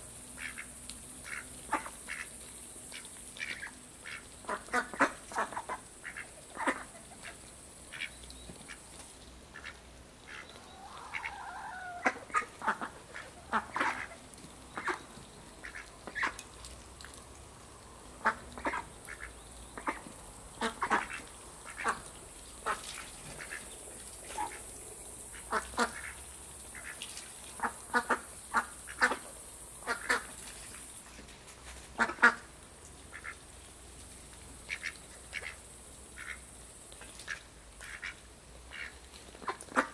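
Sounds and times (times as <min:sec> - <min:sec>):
ducks quacking: 0:00.4 - 0:02.3, 0:02.9 - 0:08.8, 0:09.5 - 0:16.4, 0:18.2 - 0:24.7, 0:25.3 - 0:30.4, 0:31.9 - 0:32.5, 0:33.1 - 0:33.4, 0:34.7 - 0:36.4, 0:37.0 - 0:39.9.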